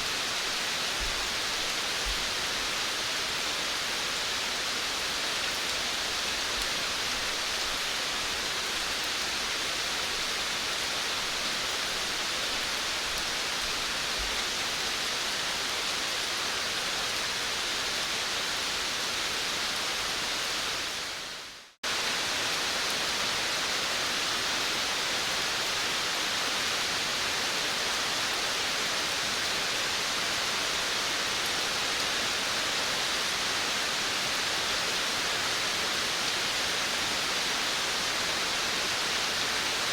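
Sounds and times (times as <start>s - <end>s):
rain on a veranda: 0.0s - 39.9s.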